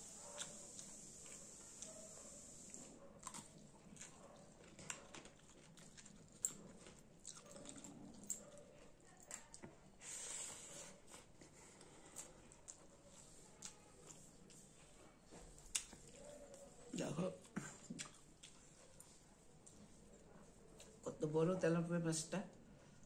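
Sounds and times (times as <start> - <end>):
soft chewing and lip smacks: 0.1 - 21.1.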